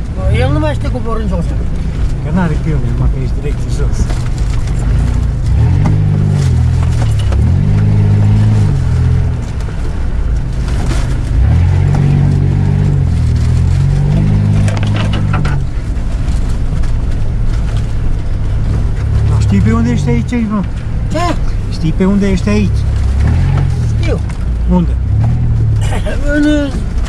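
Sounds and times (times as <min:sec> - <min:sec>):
off-road vehicle engine revving: 0:00.0 - 0:27.0
knocks and clatters: 0:01.6 - 0:19.8, 0:22.7 - 0:27.0.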